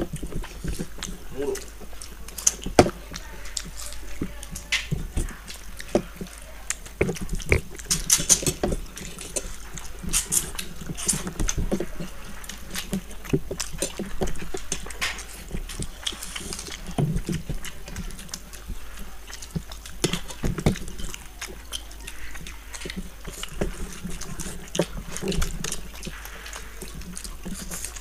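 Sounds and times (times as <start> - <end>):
wet mouth clicks and smacks: 0.0 - 11.6, 12.4 - 28.0
people chewing: 0.0 - 28.0.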